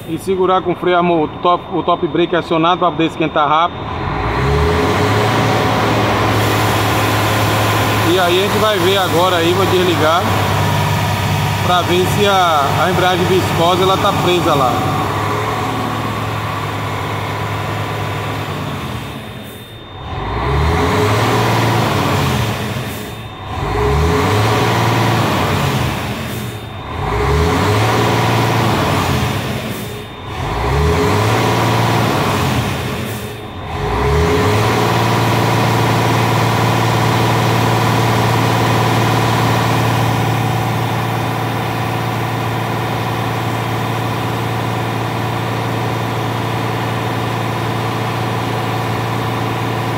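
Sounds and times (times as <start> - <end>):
truck diesel engine revving: 0.0 - 49.9.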